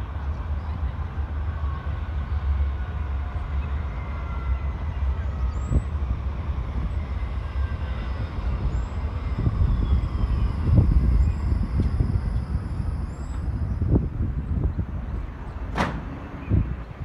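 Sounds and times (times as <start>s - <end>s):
electric tram rumbling on rails: 0.0s - 17.0s.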